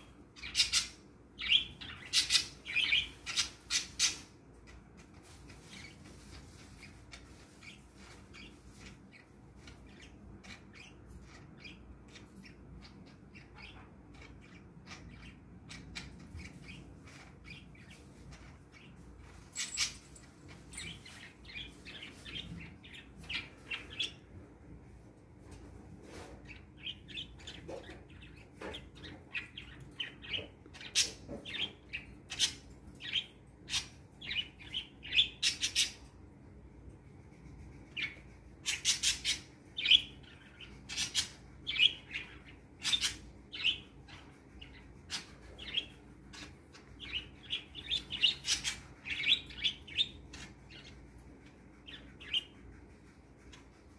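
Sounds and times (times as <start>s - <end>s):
budgerigars chirping: 0.0s - 4.4s, 5.6s - 24.3s, 26.0s - 36.1s, 37.9s - 52.6s.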